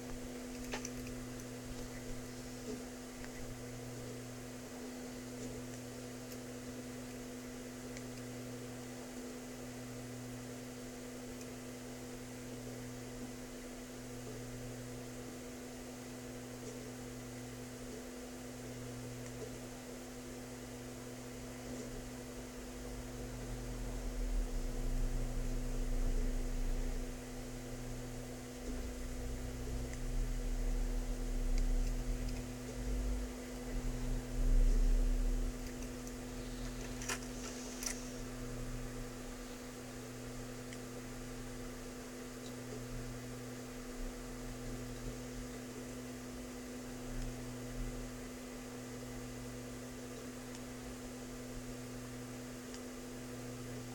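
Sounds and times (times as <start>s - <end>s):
electrical hum: 0.0s - 53.9s.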